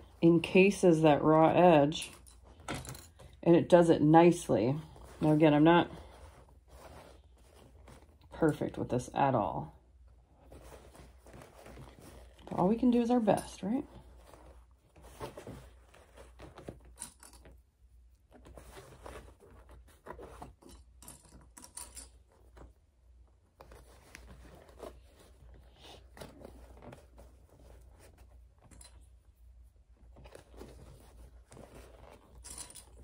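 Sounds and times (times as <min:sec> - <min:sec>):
rustling of metallic fabric: 0:00.0 - 0:33.0.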